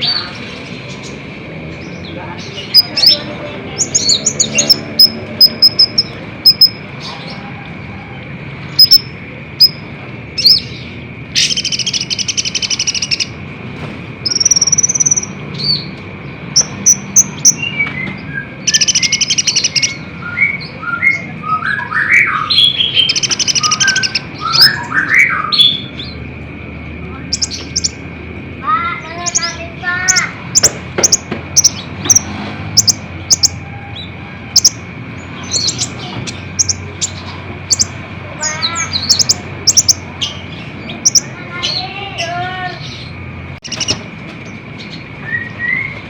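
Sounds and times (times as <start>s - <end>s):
sunbird singing: 0.0s - 13.5s, 14.1s - 46.0s.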